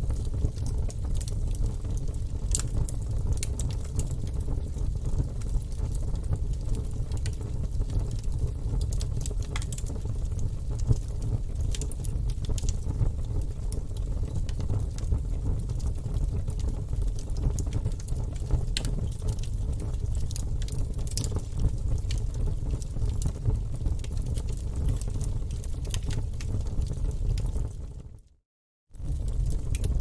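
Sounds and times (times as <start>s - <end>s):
burning logs crackling and popping: 0.1s - 27.8s, 29.0s - 30.0s
fire flames burning: 0.1s - 27.8s, 29.0s - 30.0s.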